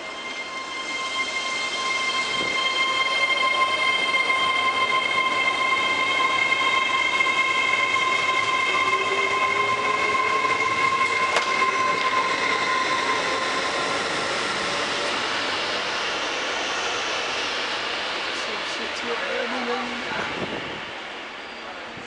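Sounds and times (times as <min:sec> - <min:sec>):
train rolling rumble: 0:00.0 - 0:22.0
train wheel squeal: 0:00.0 - 0:22.0.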